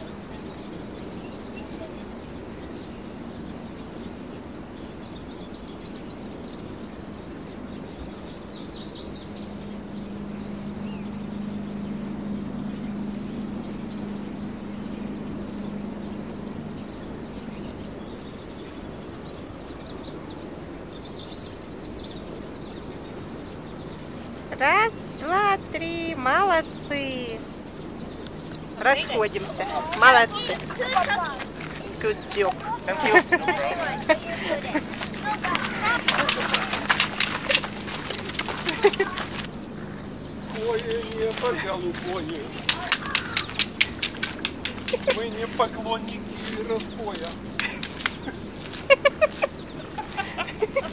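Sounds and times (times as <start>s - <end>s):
outdoor background noise: 0.0s - 50.9s
small birds chirping and trilling: 0.0s - 50.9s
faint low hum: 6.8s - 21.0s, 21.8s - 50.9s.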